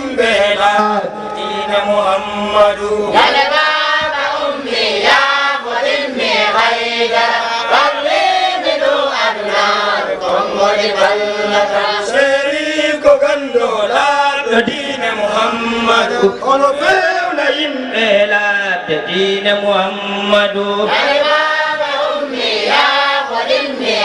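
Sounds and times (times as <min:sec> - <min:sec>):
group of men chanting: 0:00.0 - 0:24.0.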